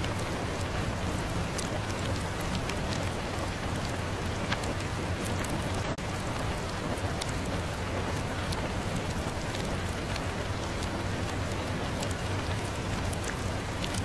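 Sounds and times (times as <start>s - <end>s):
fireplace crackles: 0.0s - 14.0s
steady rain: 0.0s - 14.0s.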